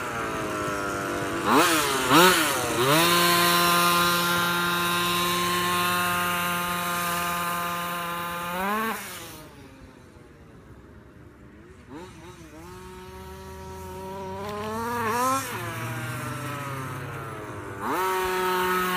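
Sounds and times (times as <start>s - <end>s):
small two-stroke engine revving: 0.0s - 18.9s.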